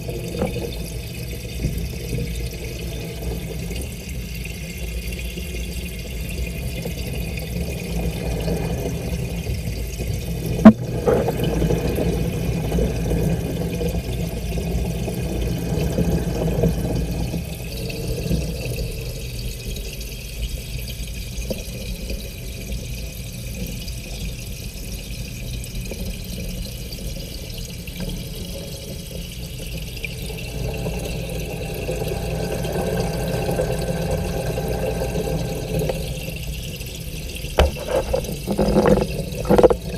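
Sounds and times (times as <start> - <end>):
aquarium bubbling underwater: 0.0 - 39.9.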